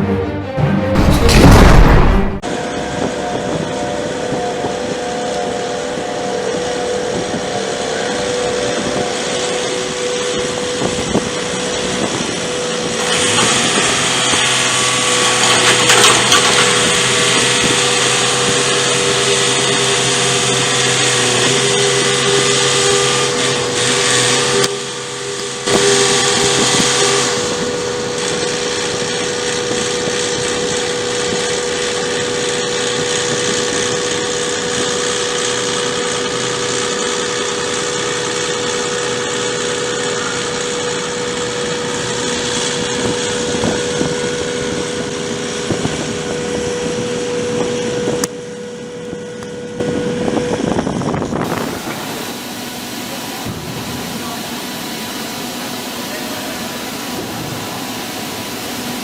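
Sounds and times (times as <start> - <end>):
machinery whining: 1.0 - 59.0.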